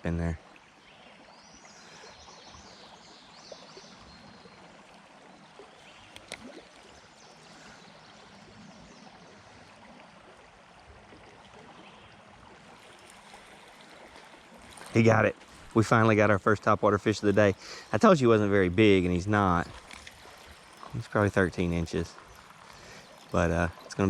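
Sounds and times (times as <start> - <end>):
river water trickling: 0.0 - 24.0.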